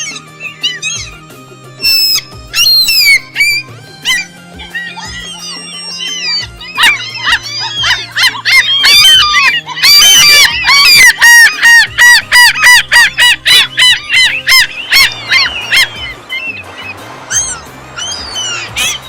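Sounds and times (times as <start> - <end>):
gulls yelping calls: 0.0 - 19.0.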